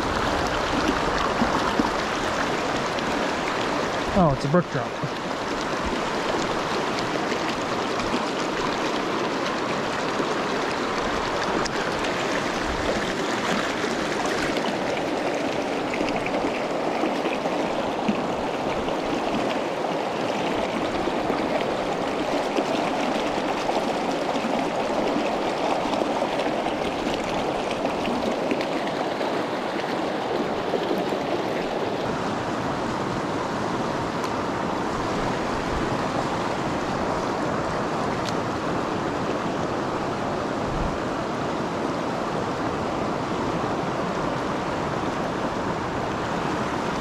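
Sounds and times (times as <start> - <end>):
stream rushing over stones: 0.0 - 47.0.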